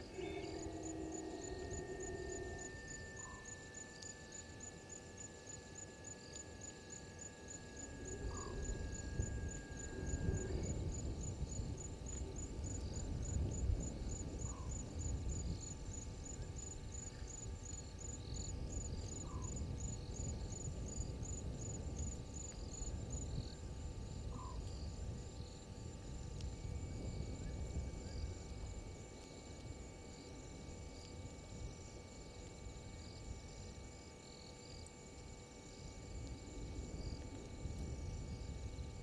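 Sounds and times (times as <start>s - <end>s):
insect chirping: 0.0s - 39.0s.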